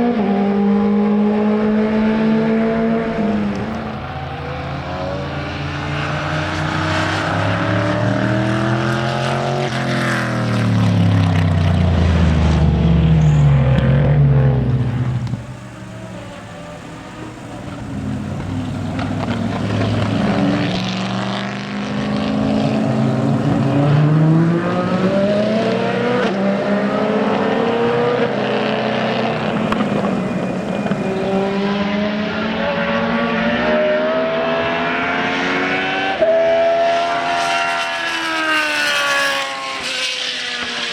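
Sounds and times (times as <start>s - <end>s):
racing car engines revving: 0.0s - 40.9s
racing car passing by: 0.0s - 40.9s.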